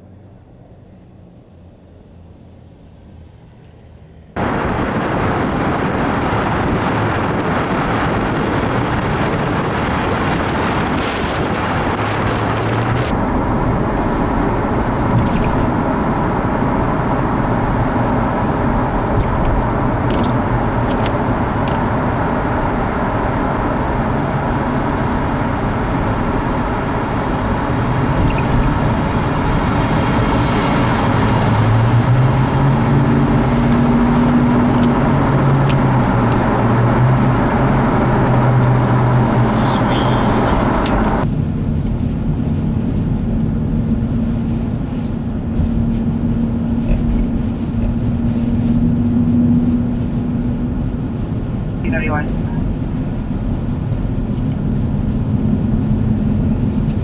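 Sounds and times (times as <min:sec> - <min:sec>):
traffic noise in tunnel: 0:00.0 - 0:57.0
vehicle tyre and engine noise: 0:00.0 - 0:57.0.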